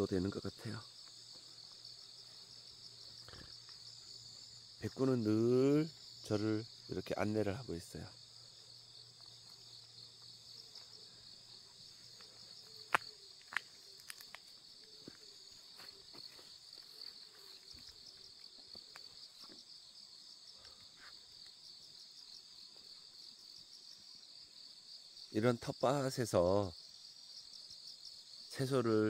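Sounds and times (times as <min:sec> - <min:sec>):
insects chirping in grass: 0:00.0 - 0:29.0.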